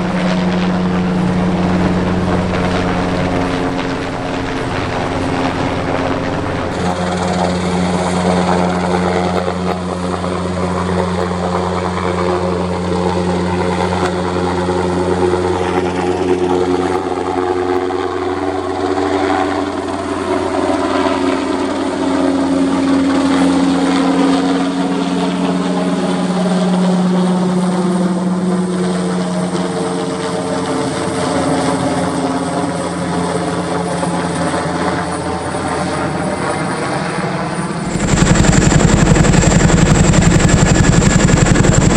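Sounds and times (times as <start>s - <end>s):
helicopter rotors and turbines: 0.0s - 41.9s.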